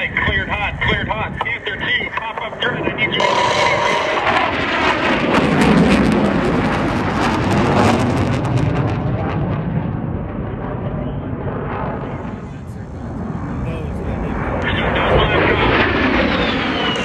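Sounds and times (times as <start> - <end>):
jet passing overhead: 3.0 - 17.0.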